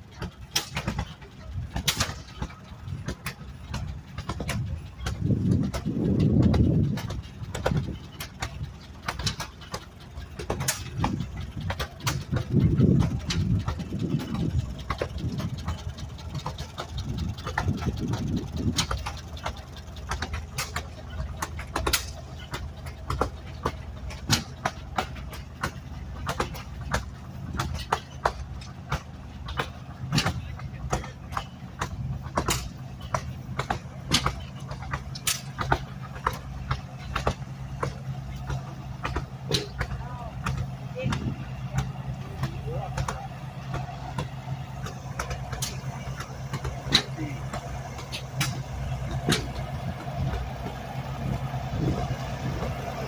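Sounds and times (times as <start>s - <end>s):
engine running: 0.0s - 53.0s.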